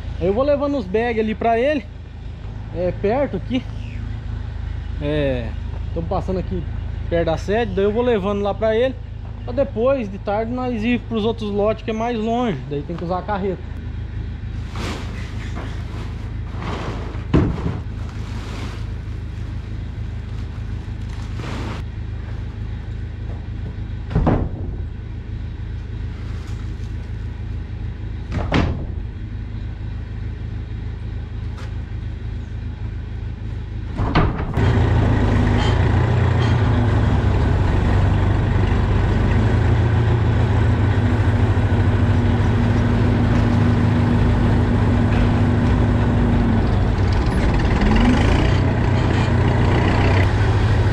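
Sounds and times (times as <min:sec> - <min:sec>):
diesel tractor engine running: 0:00.0 - 0:50.9.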